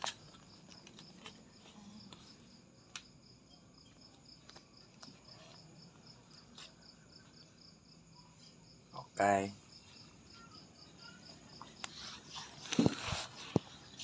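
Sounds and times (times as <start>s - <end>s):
faint insect chirping: 0.0s - 14.0s.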